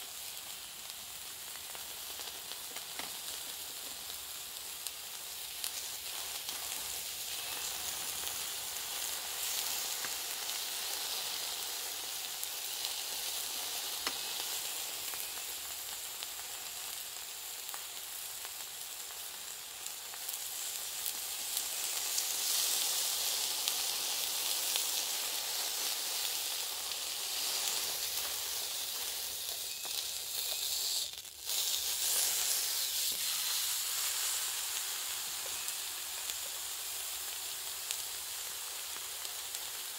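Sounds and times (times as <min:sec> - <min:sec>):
burger patty sizzling in a pan: 0:00.0 - 0:39.9.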